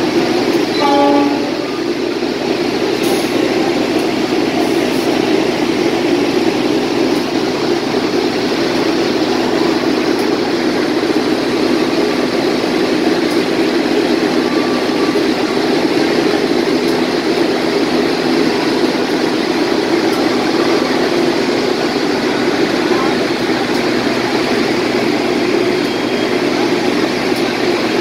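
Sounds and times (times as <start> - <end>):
diesel locomotive engine running: 0.0 - 28.0.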